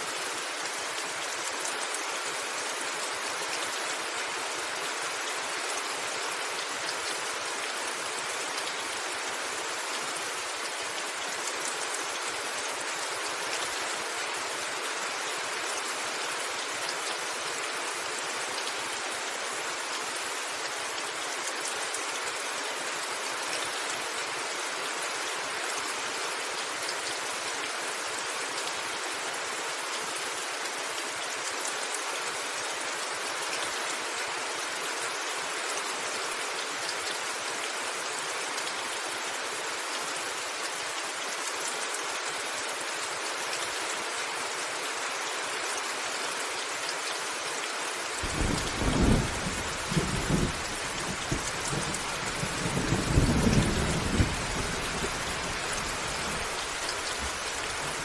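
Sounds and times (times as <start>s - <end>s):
rain on a rooftop: 0.0s - 58.0s.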